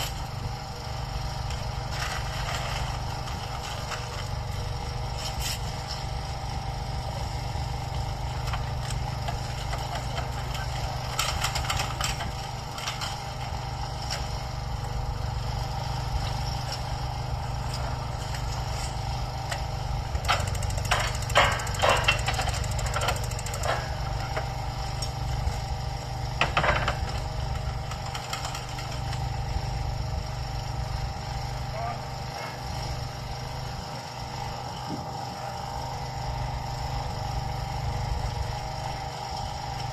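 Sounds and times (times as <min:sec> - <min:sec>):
machinery engine drone: 0:00.0 - 0:39.9.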